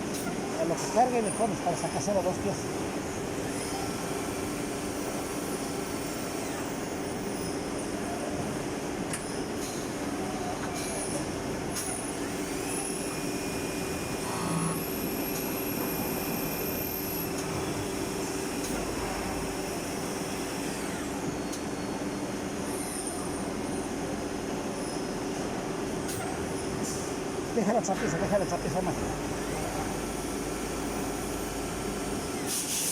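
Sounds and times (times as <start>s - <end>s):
high machine whine: 0.0s - 32.8s.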